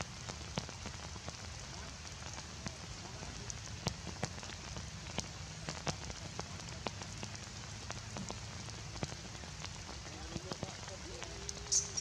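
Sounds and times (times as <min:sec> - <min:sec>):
heavy rain falling: 0:00.0 - 0:12.0
raindrop taps: 0:00.0 - 0:12.0.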